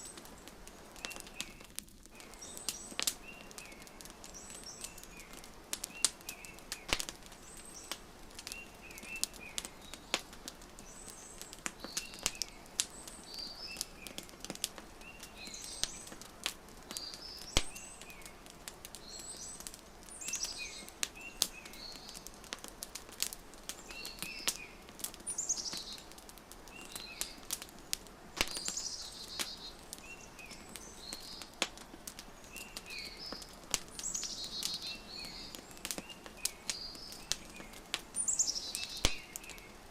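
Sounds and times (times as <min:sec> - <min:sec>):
small birds chirping: 0:00.0 - 0:39.9
wood fire crackling: 0:00.0 - 0:39.9.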